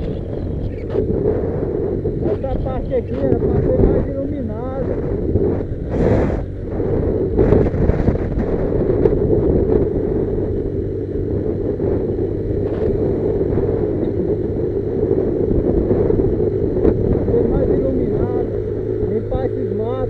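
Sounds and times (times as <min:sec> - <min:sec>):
motorcycle engine running: 0:00.0 - 0:20.0
wind rumbling on microphone: 0:00.0 - 0:20.0.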